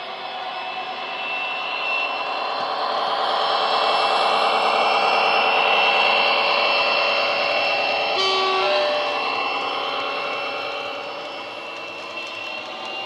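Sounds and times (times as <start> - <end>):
high whine: 1.0 - 13.0.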